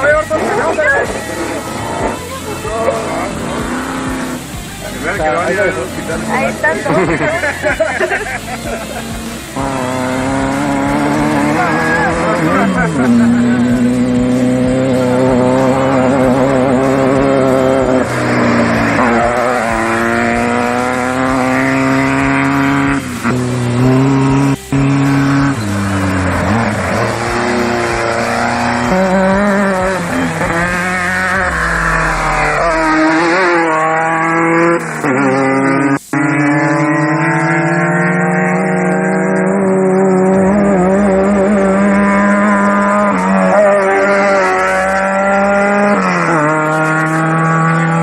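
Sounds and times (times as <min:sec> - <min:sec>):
race vehicle engines passing by: 0:00.0 - 0:48.0.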